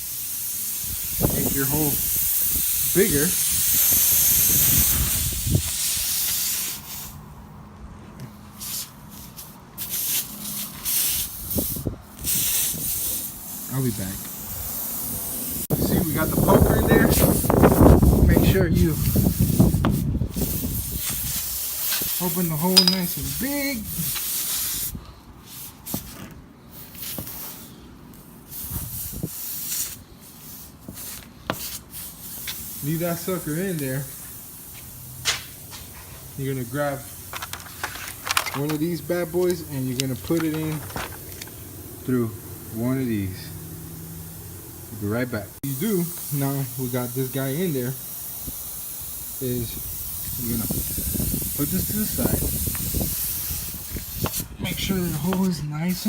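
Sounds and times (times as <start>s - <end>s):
air hissing from tyre: 0.0s - 7.6s, 8.2s - 56.0s.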